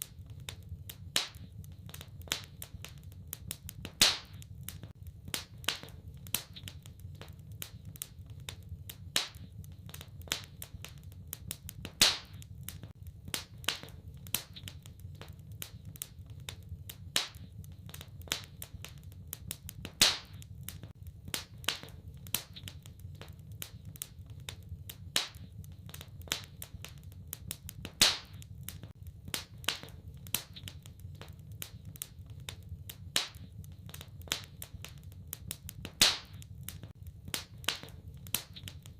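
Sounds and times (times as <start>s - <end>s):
fire popping: 0.0s - 38.9s
low rumble of burning: 0.0s - 38.9s
wood fire crackling: 0.0s - 38.9s.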